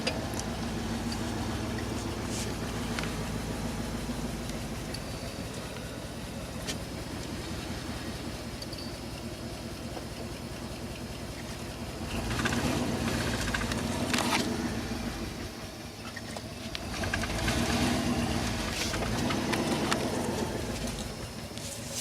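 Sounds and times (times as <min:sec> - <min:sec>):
road noise: 0:00.0 - 0:22.0
vehicle engine: 0:00.0 - 0:22.0.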